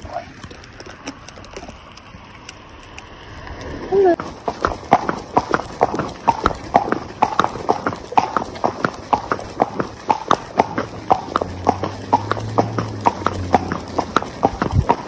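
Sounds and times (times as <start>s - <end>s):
horse hooves on asphalt: 0.0s - 15.0s.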